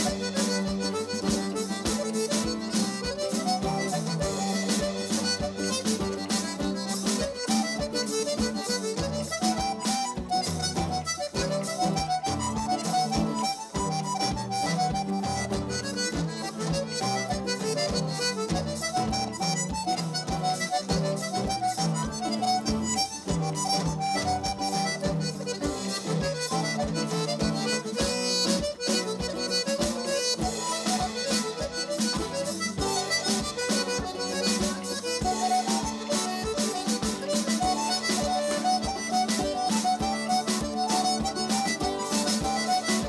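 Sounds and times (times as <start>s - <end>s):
button accordion melody: 0.0s - 43.0s
guitar chords: 0.0s - 43.0s
steady drum beat: 0.0s - 43.0s.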